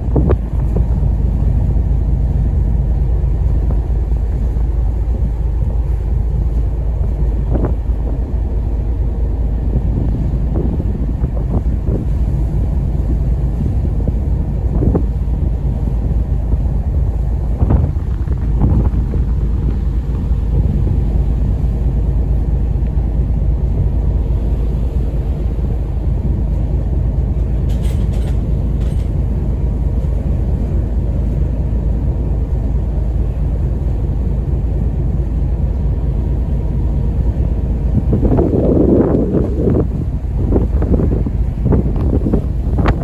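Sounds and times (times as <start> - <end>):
ferry engine rumbling: 0.0 - 43.0
wind buffeting microphone: 0.0 - 43.0.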